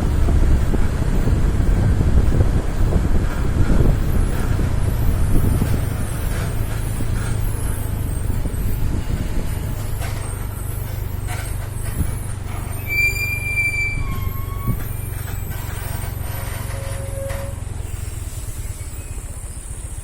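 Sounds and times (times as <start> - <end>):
diesel truck engine drone: 0.0 - 20.0.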